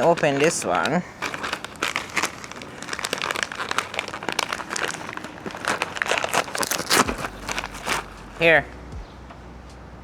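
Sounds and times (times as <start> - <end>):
plastic crinkling: 0.0 - 8.6.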